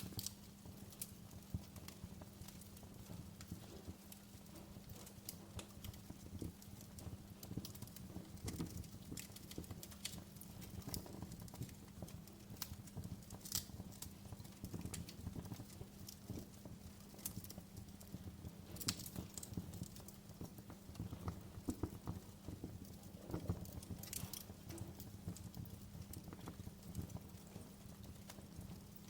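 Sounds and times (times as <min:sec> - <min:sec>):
low rumble of burning wood: 0:00.0 - 0:29.0
wood fire popping and snapping: 0:00.0 - 0:29.0.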